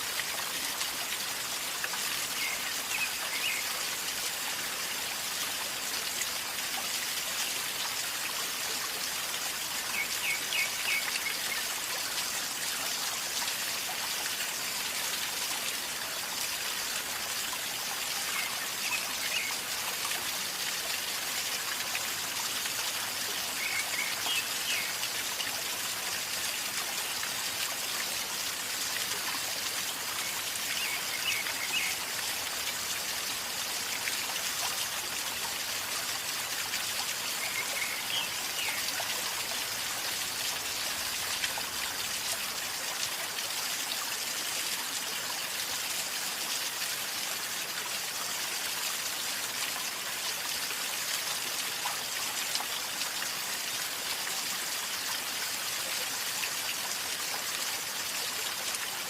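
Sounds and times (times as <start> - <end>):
river water flowing and gurgling: 0.0 - 59.0.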